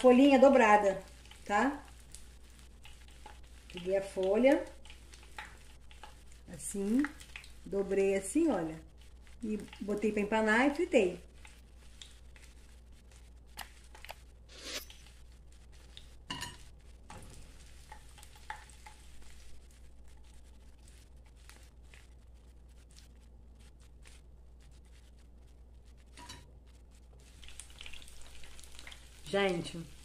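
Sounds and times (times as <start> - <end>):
leaves frying in oil: 0.0 - 30.0.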